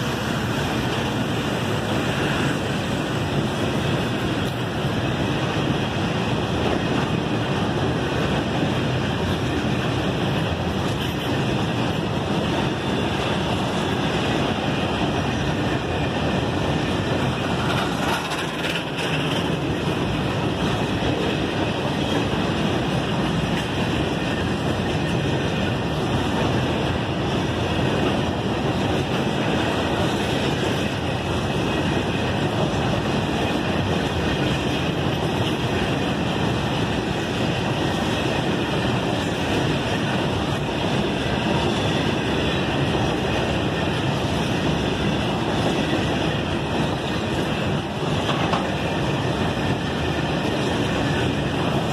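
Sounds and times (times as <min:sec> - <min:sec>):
steel wheels running on rails: 0:00.0 - 0:51.9.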